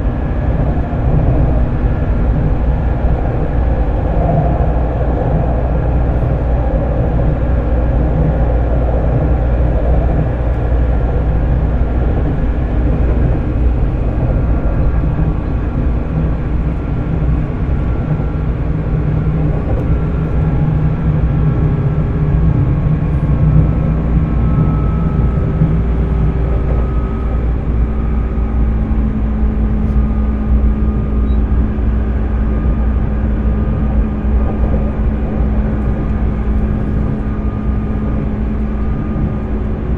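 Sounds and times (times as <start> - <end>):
faint motor and fan tones: 0.0 - 39.9
train wheels rumbling: 0.0 - 39.9.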